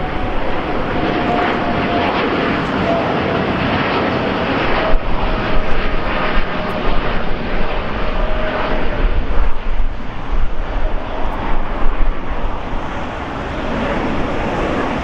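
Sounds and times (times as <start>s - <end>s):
jet engines roaring with whine: 0.0s - 15.0s.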